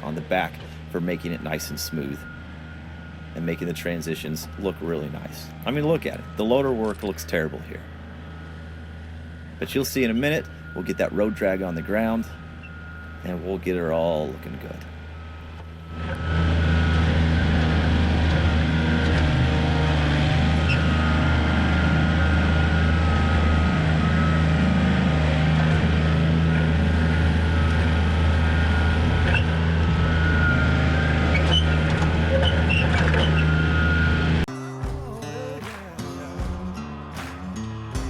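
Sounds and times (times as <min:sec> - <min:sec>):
high whine: 0:00.0 - 0:38.0
tractor diesel engine running: 0:00.0 - 0:38.0.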